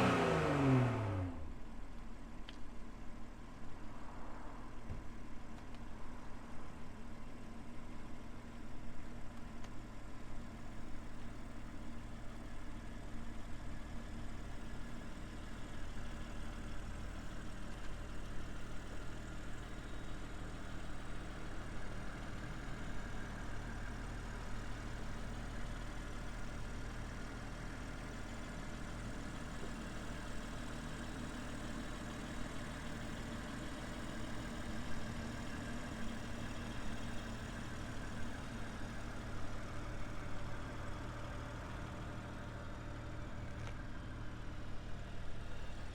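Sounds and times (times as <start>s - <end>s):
car engine idling: 8.4s - 45.9s.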